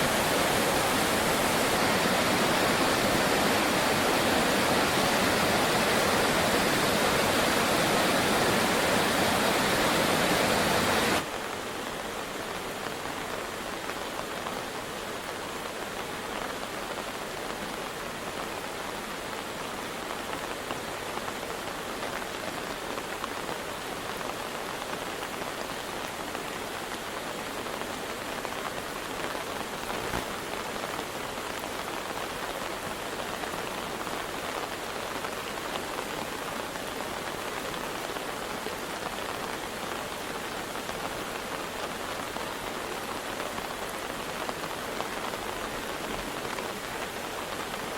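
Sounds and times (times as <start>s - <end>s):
heavy rain: 0.0s - 47.9s
swollen river rushing: 0.0s - 47.9s.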